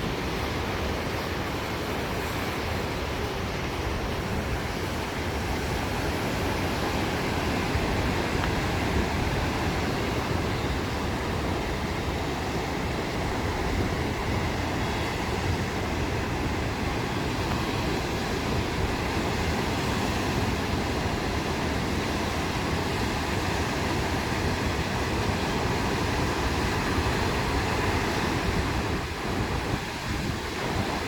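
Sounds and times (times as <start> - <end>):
ocean surf washing on beach: 0.0 - 31.0
wind rumbling on microphone: 0.0 - 31.0.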